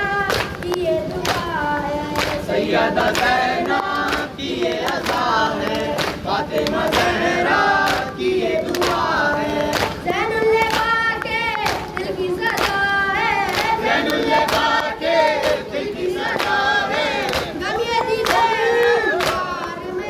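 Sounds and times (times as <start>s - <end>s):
crowd singing along: 0.0s - 20.0s
lament sung over microphones: 0.0s - 20.0s.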